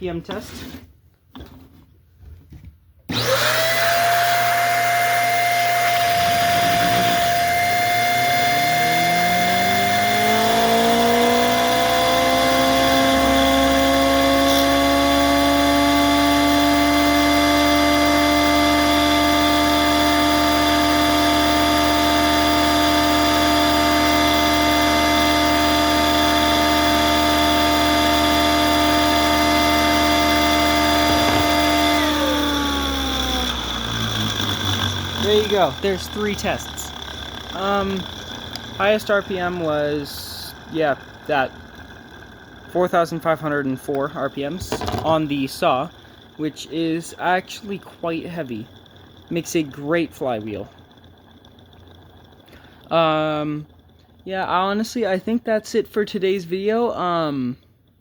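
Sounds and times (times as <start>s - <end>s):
table saw motor whine: 3.1s - 55.4s.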